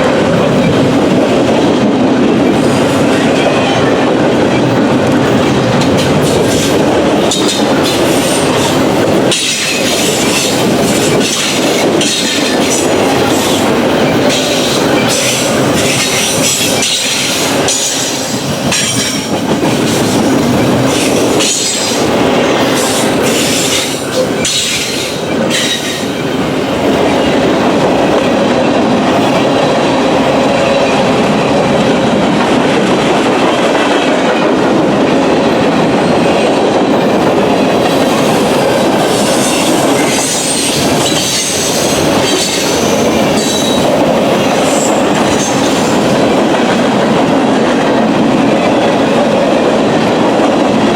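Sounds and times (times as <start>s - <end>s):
freight train cars rolling: 0.0s - 50.9s.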